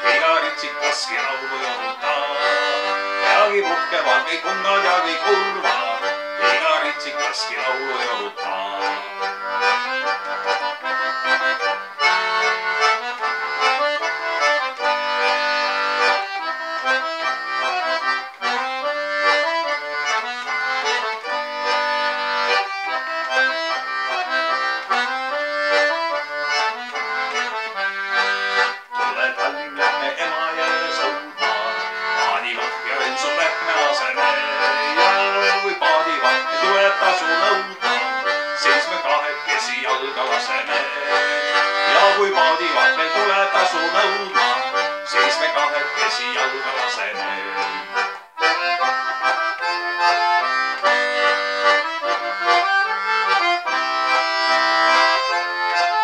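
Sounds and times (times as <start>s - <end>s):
button accordion: 0.0s - 56.0s.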